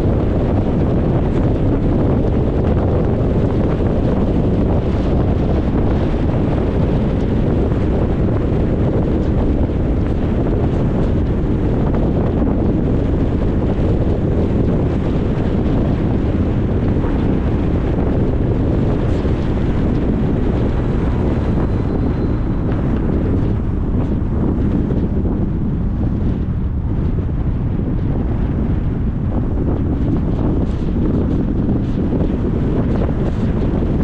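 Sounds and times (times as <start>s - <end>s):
car road and wind rumble: 0.0s - 34.0s.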